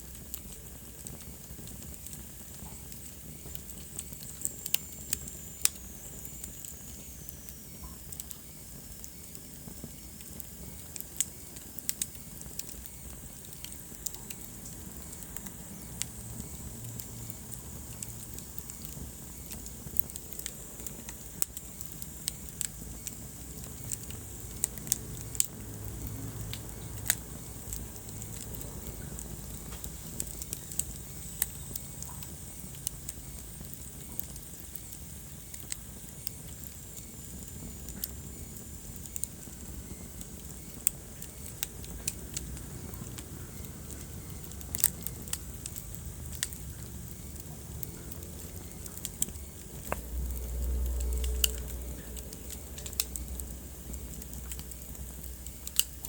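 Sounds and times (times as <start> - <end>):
fire pops and snaps: 0.0 - 56.0
low rumble of burning: 0.0 - 56.0.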